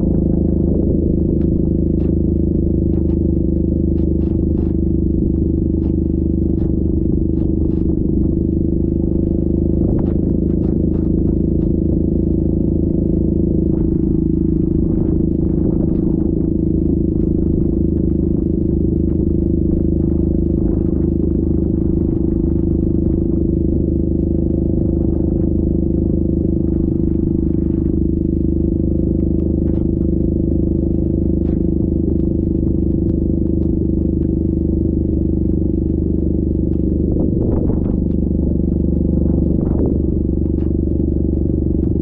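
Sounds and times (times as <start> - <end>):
engine running steadily: 0.0 - 42.0
faint ticks and clatters: 0.0 - 42.0.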